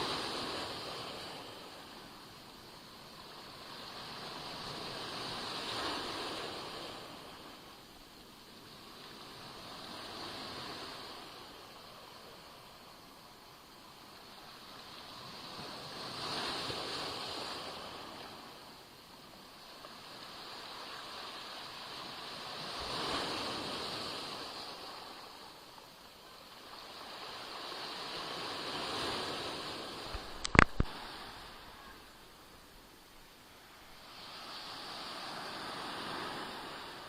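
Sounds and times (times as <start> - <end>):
waves washing onto shore: 0.0 - 37.0.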